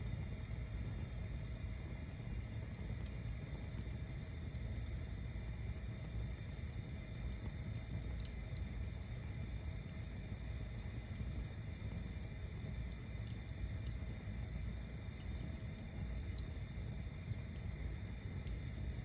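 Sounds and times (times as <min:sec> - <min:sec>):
bonfire rumble: 0:00.0 - 0:19.0
fire crackles and pops: 0:00.0 - 0:19.0.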